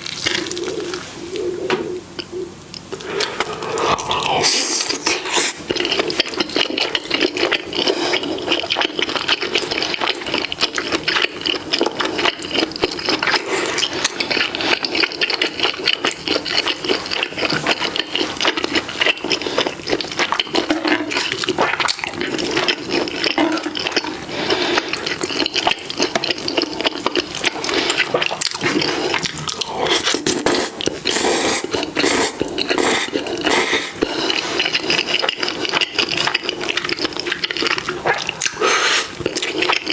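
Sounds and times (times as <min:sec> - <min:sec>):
wet chewing and slurping: 0:00.0 - 0:39.9.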